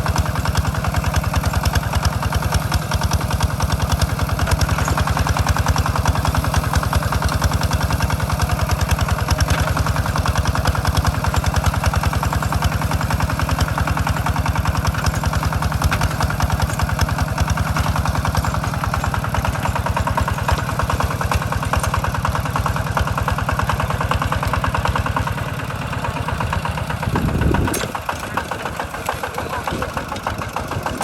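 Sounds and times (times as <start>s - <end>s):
tractor engine chugging: 0.0s - 31.0s.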